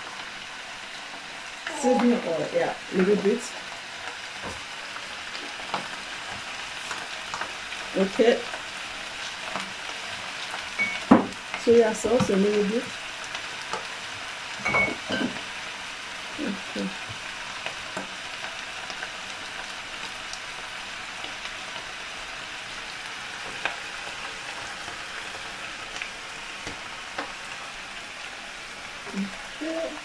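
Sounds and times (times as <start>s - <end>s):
cabbage sizzling in a frying pan: 0.0s - 30.0s.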